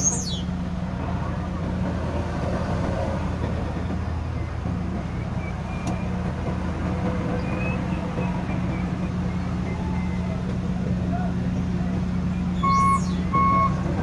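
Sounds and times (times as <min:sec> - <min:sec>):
diesel truck engine low hum: 0:00.0 - 0:14.0.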